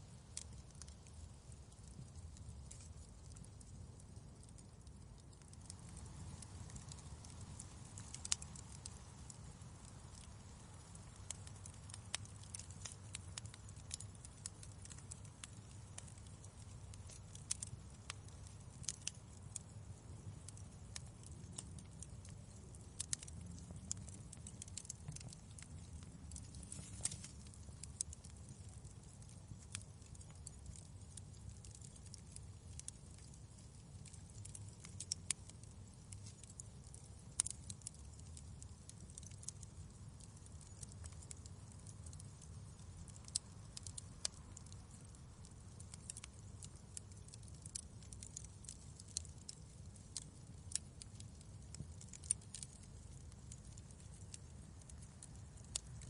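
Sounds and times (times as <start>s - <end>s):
low fire rumble: 0.0s - 56.0s
fireplace popping and snapping: 5.2s - 10.3s, 11.0s - 19.6s, 20.4s - 39.6s, 40.2s - 44.9s, 45.8s - 55.8s.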